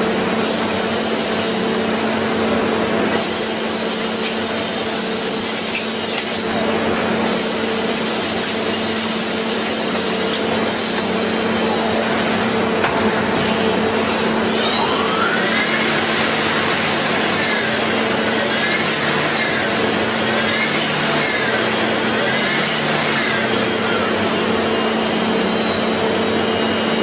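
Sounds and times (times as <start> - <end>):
high machine whine: 0.0 - 27.0
machine tool humming: 0.0 - 27.0.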